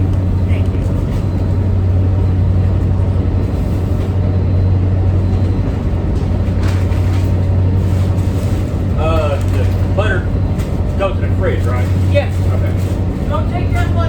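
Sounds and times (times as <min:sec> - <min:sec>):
diesel engines droning: 0:00.0 - 0:14.0.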